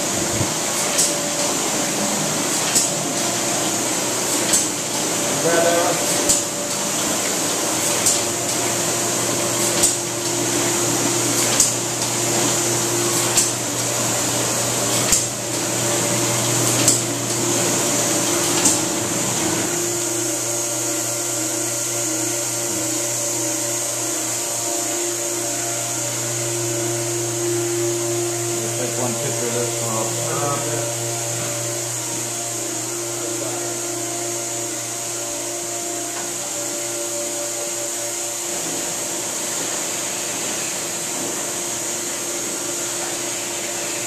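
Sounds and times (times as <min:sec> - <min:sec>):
machinery humming and hissing: 0:00.0 - 0:44.0.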